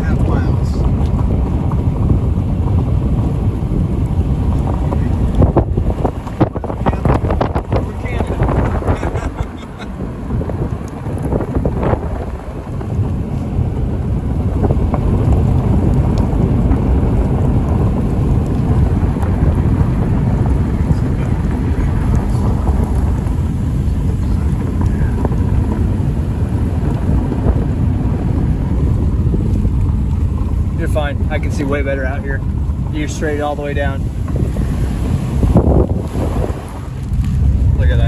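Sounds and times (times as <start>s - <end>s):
storm wind buffeting microphone: 0.0s - 38.0s.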